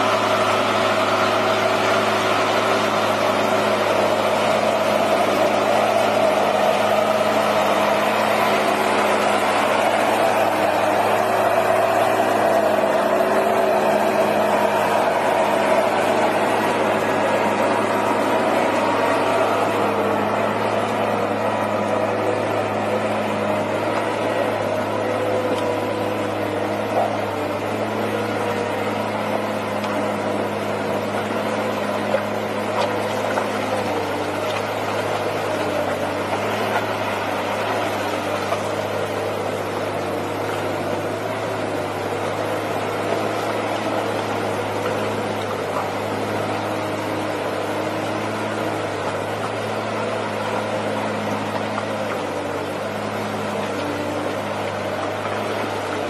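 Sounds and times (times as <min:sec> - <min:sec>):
engine droning steadily: 0:00.0 - 0:56.0.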